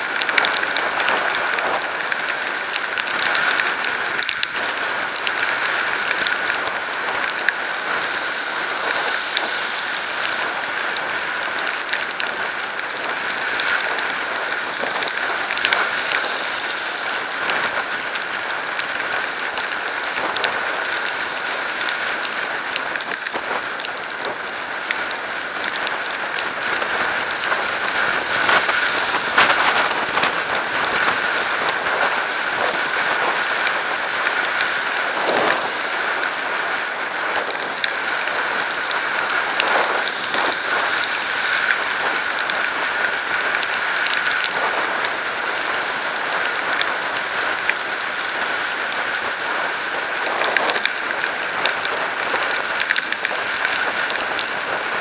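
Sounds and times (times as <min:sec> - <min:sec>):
raindrops hitting camera: 0:00.0 - 0:55.0
road noise: 0:00.0 - 0:55.0
rushing wind: 0:00.0 - 0:55.0.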